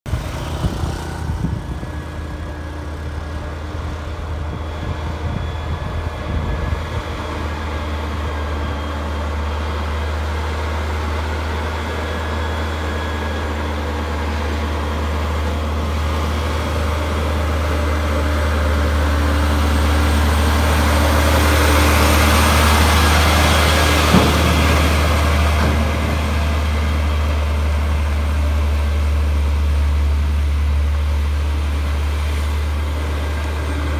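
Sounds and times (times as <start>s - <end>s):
truck diesel engine droning: 0.0s - 33.9s.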